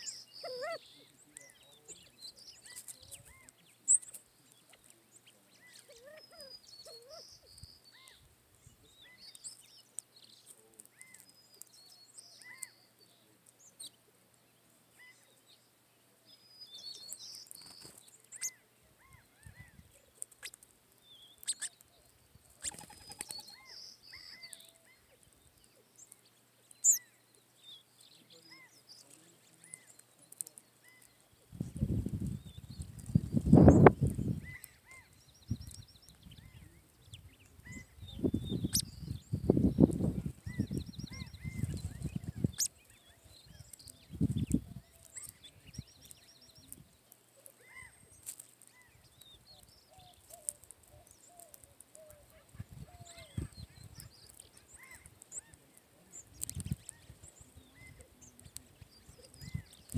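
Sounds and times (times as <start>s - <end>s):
high bird chirping: 0.0s - 13.9s, 16.4s - 59.9s
birds calling: 0.0s - 14.0s, 14.6s - 59.9s.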